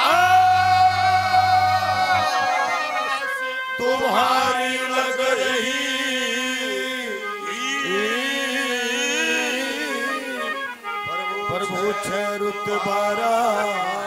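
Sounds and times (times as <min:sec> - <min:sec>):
harmonium held notes: 0:00.0 - 0:14.0
man chanting a devotional song: 0:00.0 - 0:14.0.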